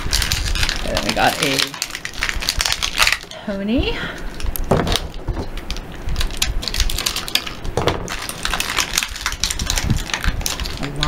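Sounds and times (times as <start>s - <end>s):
plastic packaging crinkling: 0.0s - 3.4s, 4.2s - 11.0s.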